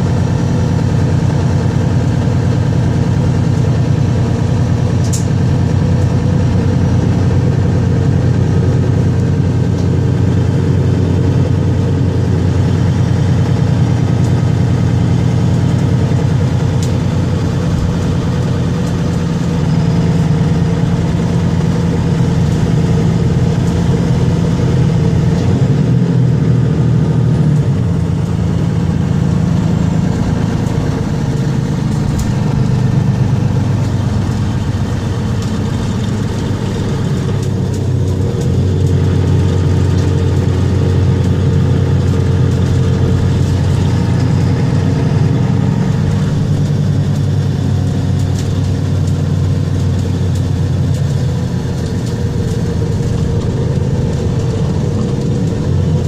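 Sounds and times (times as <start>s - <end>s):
bus engine hum: 0.0s - 56.0s
road noise: 0.0s - 56.0s.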